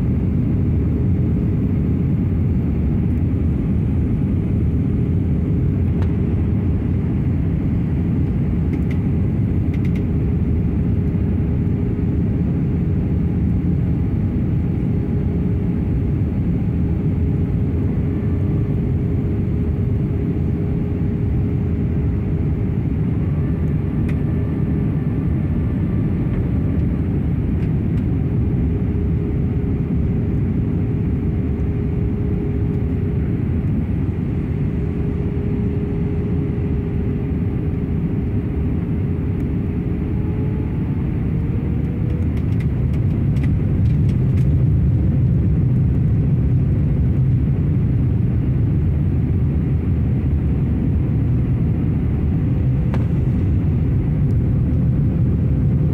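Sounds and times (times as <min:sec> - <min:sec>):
aircraft cabin engine rush: 0:00.0 - 0:55.9
faint steady hum: 0:00.0 - 0:55.9.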